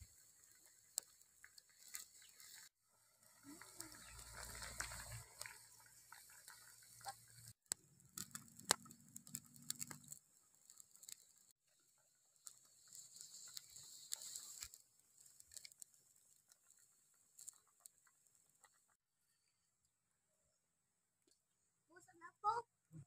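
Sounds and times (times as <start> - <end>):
burning wood crackling: 0.0 - 19.0
water boiling in a pot: 0.0 - 19.1.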